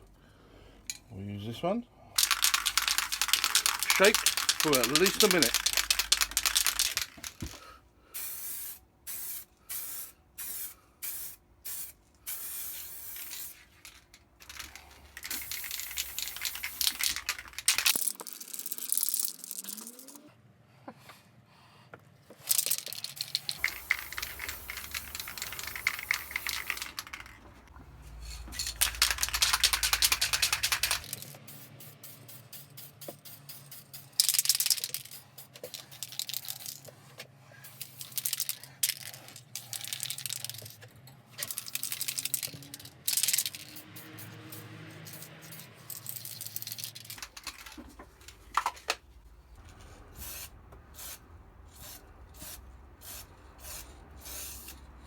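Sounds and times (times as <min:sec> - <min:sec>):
spray can ball rattling: 0:02.2 - 0:19.9, 0:22.4 - 0:37.0, 0:37.6 - 0:40.8, 0:41.4 - 0:49.0, 0:49.6 - 0:54.8.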